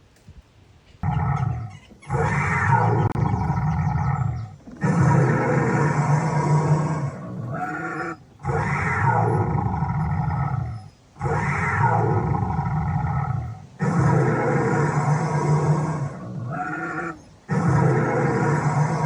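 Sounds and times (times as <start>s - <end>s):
animal roaring: 1.0s - 19.0s.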